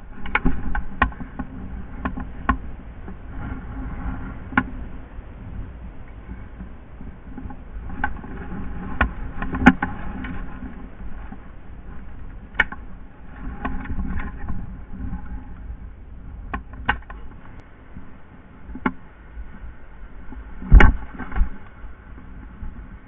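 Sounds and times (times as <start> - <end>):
constant low rumble: 0.0 - 23.0.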